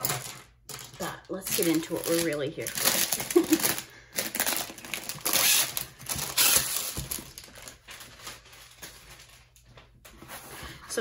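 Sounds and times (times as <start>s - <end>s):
plastic wrap crinkling: 0.0s - 10.4s.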